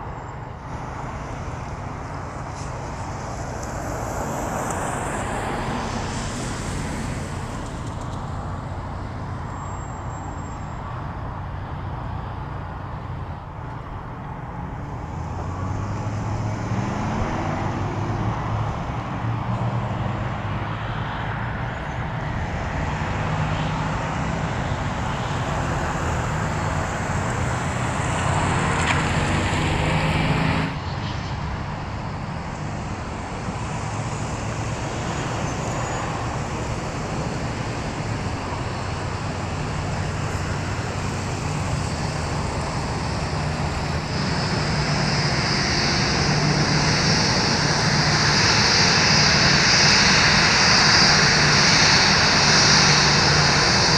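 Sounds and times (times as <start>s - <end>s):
high engine whine: 0.0s - 53.9s
jet engines at taxi power: 0.0s - 53.9s.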